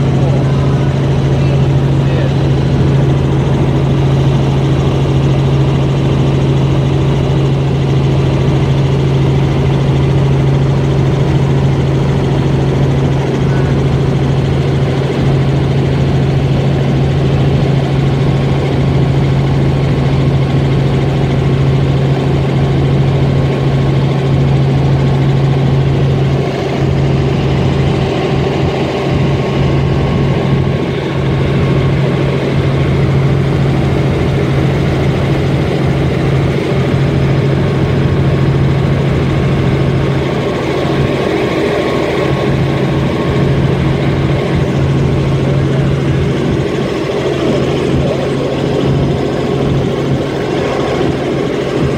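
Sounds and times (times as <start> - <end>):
helicopter drone inside cabin: 0.0 - 51.9.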